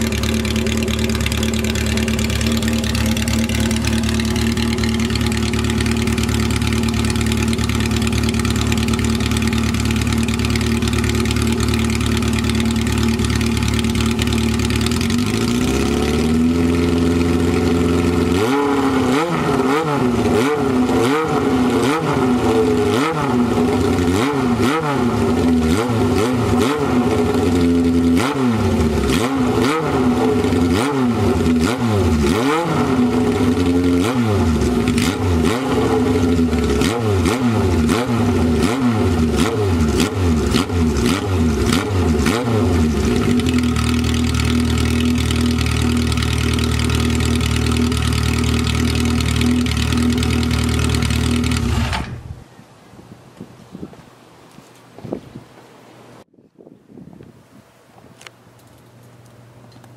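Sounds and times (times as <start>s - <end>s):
motorcycle engine idling and revving: 0.0s - 52.4s.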